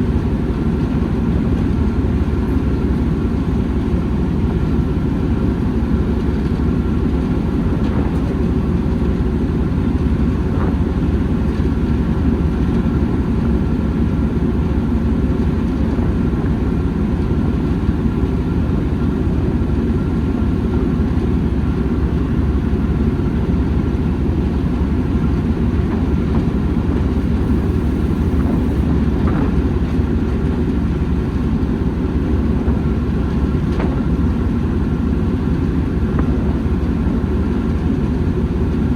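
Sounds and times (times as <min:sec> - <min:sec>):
train rumbling: 0:05.4 - 0:38.8.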